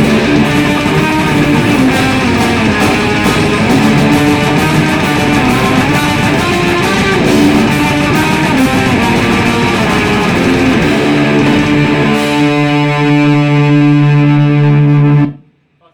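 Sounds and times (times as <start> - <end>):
drum kit playing: 0.0 - 15.3
distorted electric guitar: 0.0 - 15.6.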